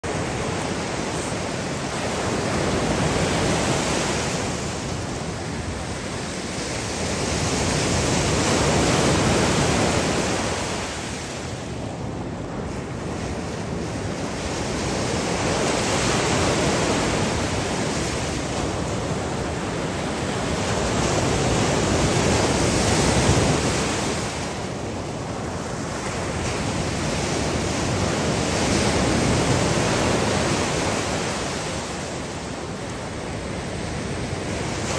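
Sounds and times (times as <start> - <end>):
waves breaking on beach: 0.0 - 34.9.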